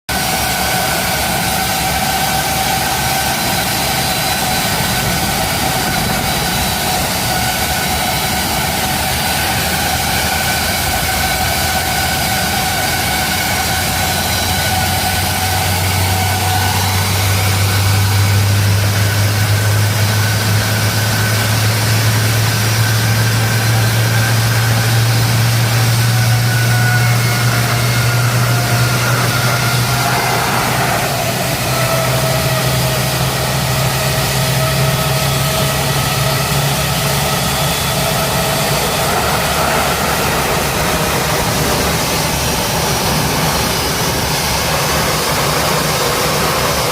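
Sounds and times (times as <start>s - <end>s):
high jet engine whine: 0.1s - 46.9s
jet engines rumbling: 0.1s - 46.9s.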